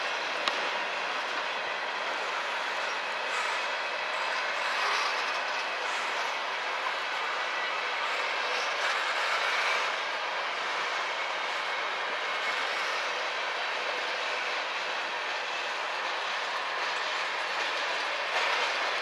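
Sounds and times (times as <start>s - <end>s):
freight train wheels on track: 0.0s - 19.0s.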